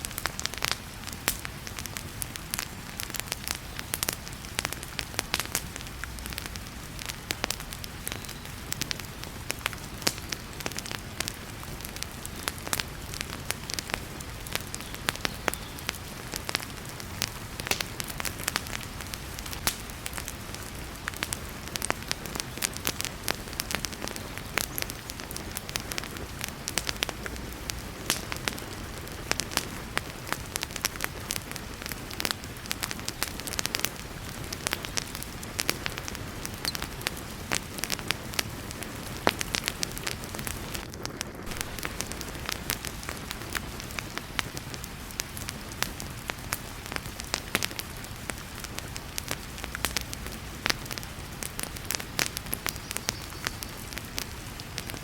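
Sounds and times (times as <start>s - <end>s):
heavy rain hiss: 0.0s - 55.0s
wood fire crackling and popping: 0.0s - 55.0s.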